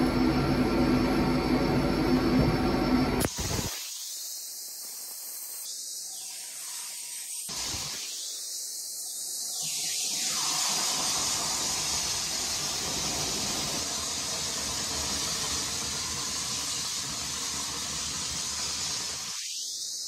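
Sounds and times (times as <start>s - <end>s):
dry ice blasting gun hissing: 3.2s - 20.0s.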